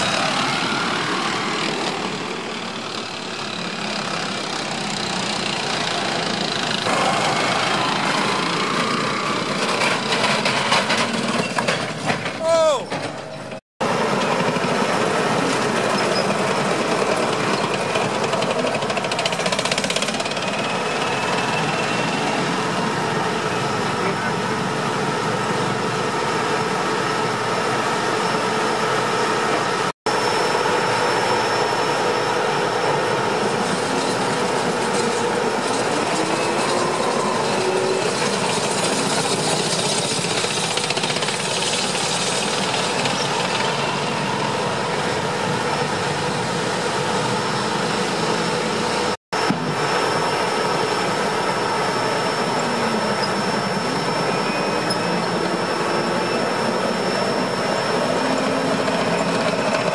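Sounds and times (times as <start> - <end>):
steel tracks clattering on road: 0.0 - 59.9
turbine engines whining: 0.0 - 59.9.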